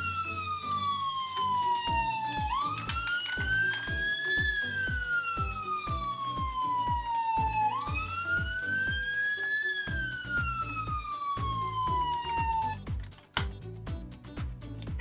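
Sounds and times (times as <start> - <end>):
toy siren wailing: 0.0 - 12.8
background music with beat: 0.0 - 15.0.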